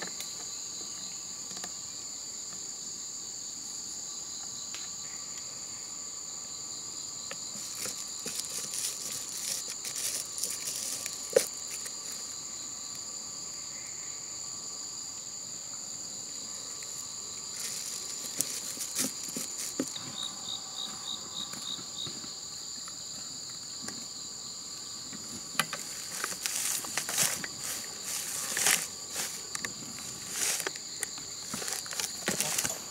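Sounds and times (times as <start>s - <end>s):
insect chorus droning: 0.0s - 32.9s.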